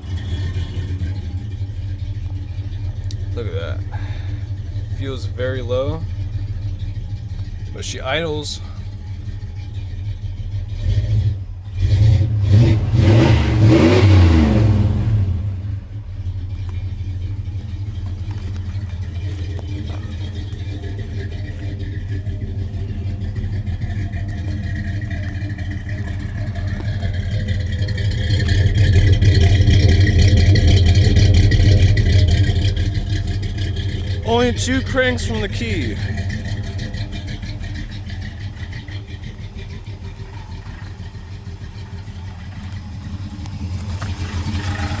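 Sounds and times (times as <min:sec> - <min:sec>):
truck engine idling and revving: 0:00.0 - 0:45.0.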